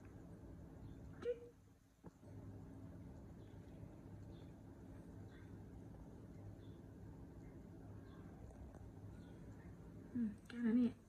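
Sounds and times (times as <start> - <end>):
faint high chirps: 0.0 - 10.9
low steady hum: 0.0 - 11.0.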